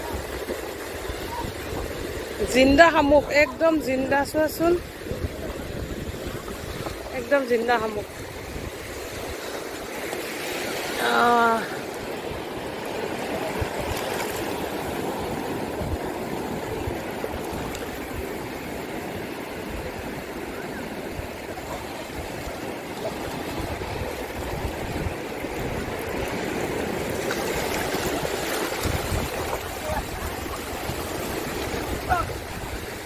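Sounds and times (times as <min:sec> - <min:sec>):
small waves lapping on sand: 0:00.0 - 0:33.0.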